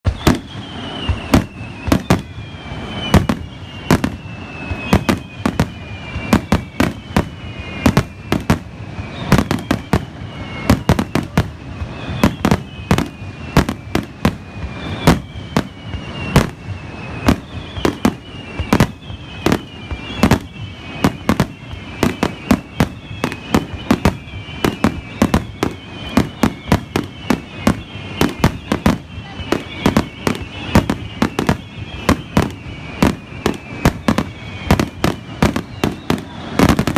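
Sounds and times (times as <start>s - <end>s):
fireworks loud bangs: 0.0s - 36.9s
fireworks whistles sliding down: 0.0s - 36.9s.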